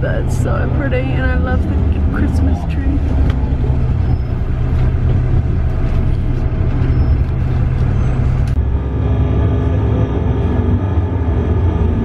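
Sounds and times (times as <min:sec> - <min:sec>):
engine humming: 0:00.0 - 0:12.0
street traffic: 0:00.0 - 0:12.0.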